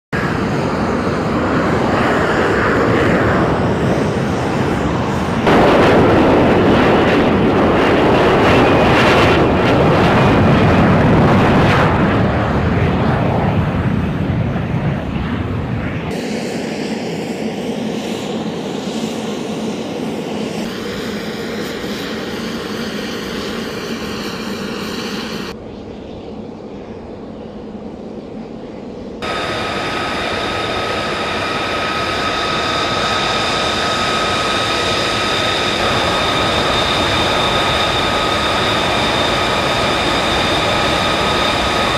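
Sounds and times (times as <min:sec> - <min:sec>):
jet engine running: 0:00.2 - 0:41.9.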